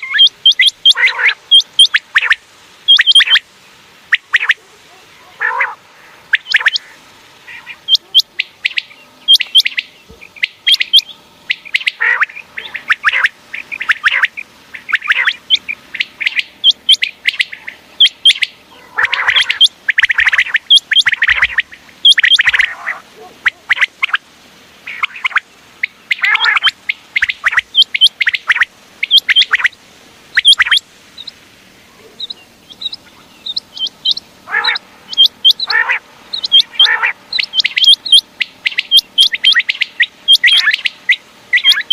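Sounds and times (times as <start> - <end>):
quail calling: 0.0 - 24.2, 24.8 - 41.9.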